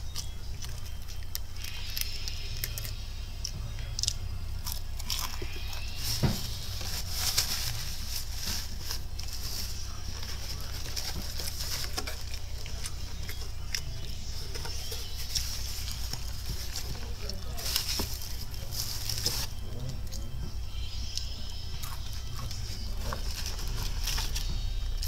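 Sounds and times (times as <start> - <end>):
chewing crunchy fried chicken: 0.0 - 25.0
steady low hum: 0.0 - 25.0.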